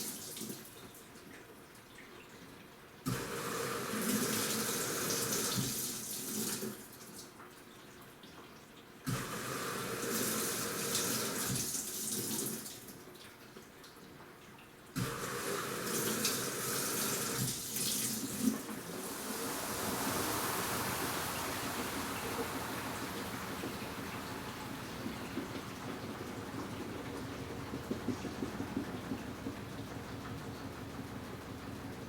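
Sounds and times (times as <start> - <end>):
water rushing in washing machine: 0.0 - 2.4, 3.0 - 7.4, 8.3 - 13.4, 14.9 - 32.0.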